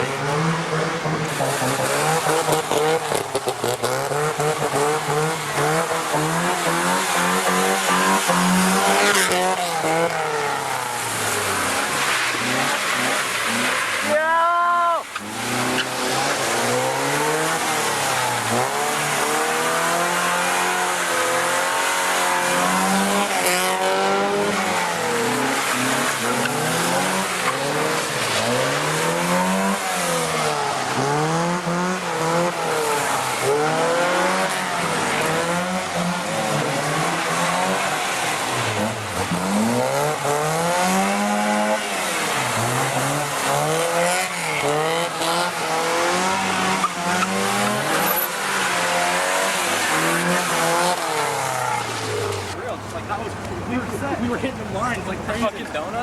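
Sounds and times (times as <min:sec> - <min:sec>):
car engine revving: 0:00.0 - 0:14.2, 0:15.1 - 0:56.0
tyre noise on wet pavement: 0:00.0 - 0:56.0.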